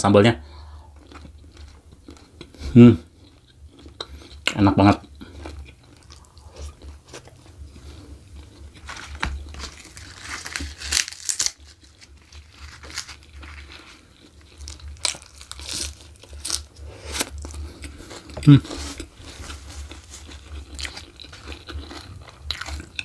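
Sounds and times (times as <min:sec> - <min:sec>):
man chewing food: 0:00.5 - 0:23.0.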